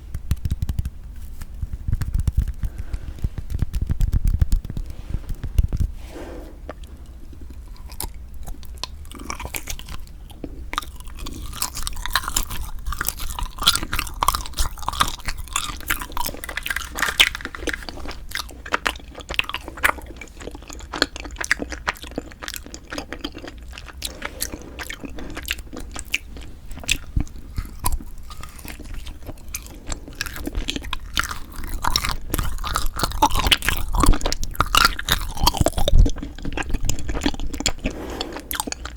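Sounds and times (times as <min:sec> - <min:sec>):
chewing and biting food: 0:06.6 - 0:38.9.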